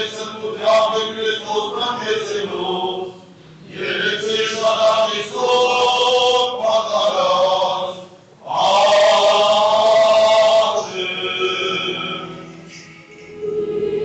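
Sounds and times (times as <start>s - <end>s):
men chanting a hymn: 0.0s - 12.8s.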